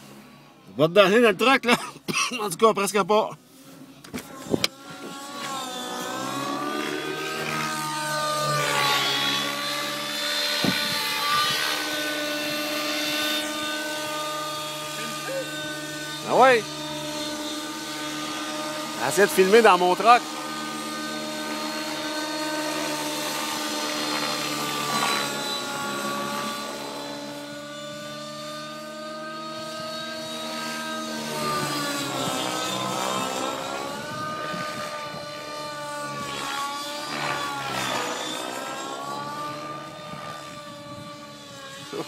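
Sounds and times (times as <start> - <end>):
model helicopter rotor whine: 0.0 - 1.8, 2.4 - 42.0.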